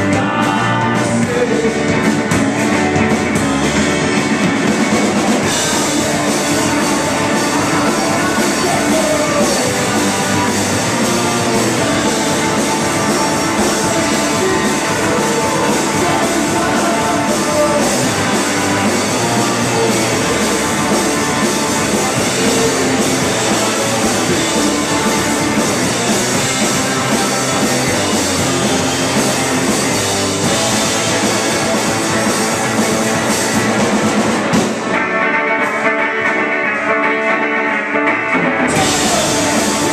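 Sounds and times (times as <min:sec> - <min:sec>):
drum kit with cymbals: 0:00.0 - 0:35.1, 0:38.6 - 0:39.9
electric bass: 0:00.0 - 0:39.9
electric guitar: 0:00.0 - 0:39.9.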